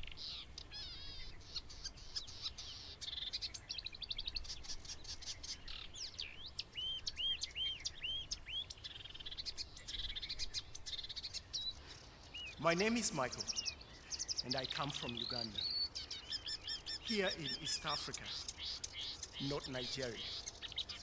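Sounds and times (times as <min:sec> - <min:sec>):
warbler singing: 0:00.0 - 0:21.0.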